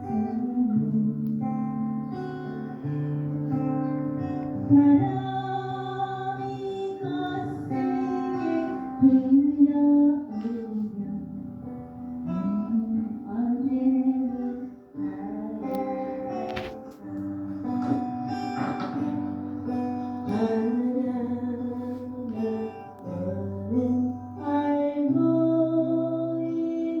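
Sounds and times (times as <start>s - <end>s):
woman singing: 0.0s - 2.9s, 4.2s - 17.7s, 19.6s - 27.0s
acoustic guitar: 0.0s - 27.0s.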